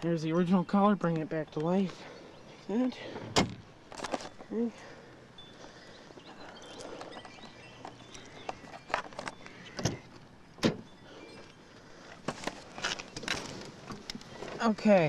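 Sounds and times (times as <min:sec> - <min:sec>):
car parts clicking and rattling: 0:02.8 - 0:15.0.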